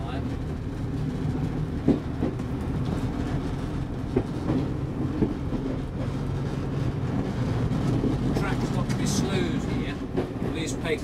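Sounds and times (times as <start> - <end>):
diesel engine drone: 0.0 - 11.0
wheels clicking over rail joints: 0.0 - 11.0.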